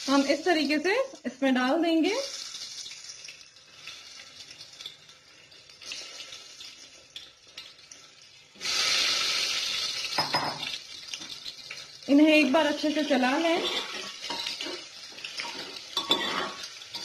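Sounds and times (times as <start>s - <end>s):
oil sizzling: 0.0s - 17.0s.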